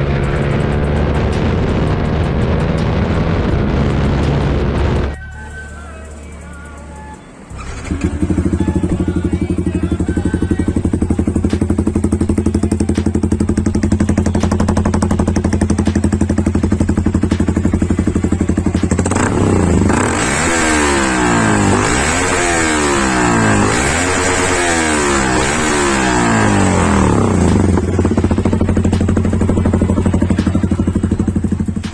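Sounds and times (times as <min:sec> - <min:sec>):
motorcycle engine revving: 0:00.0 - 0:31.9
motorcycle engine idling: 0:05.2 - 0:31.9.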